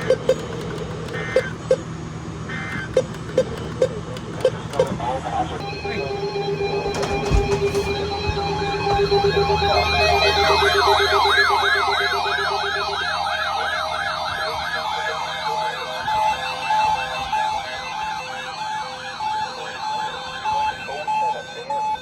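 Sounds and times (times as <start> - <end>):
electronic siren yelping: 0.0 - 1.9, 5.5 - 22.0
low hum: 0.0 - 18.2
steady tones: 0.0 - 22.0.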